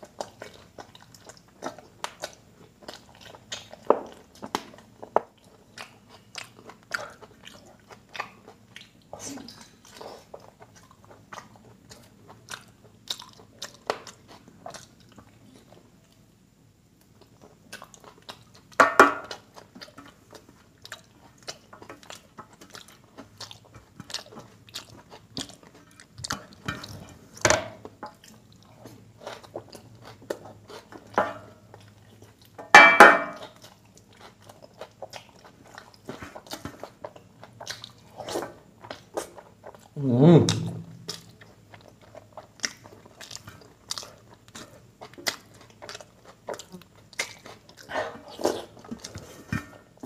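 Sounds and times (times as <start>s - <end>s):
wet chewing and smacking: 0.0s - 50.0s.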